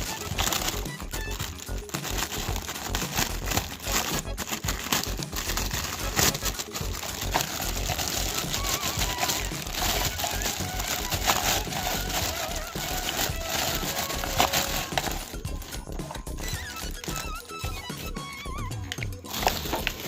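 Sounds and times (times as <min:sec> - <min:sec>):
small plastic parts clicking: 0:00.0 - 0:17.6
faint background music: 0:00.0 - 0:20.0
packaging crinkling and rustling: 0:00.0 - 0:20.0.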